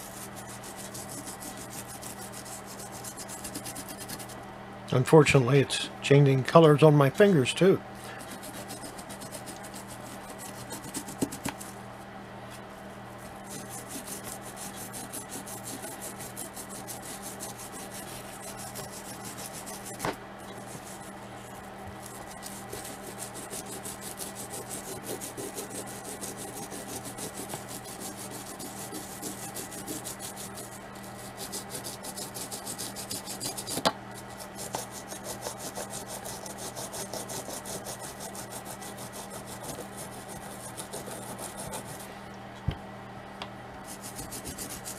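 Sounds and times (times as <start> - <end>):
toothbrush scrubbing plastic: 0.0 - 4.4, 8.1 - 11.8, 13.4 - 42.1, 43.8 - 44.9.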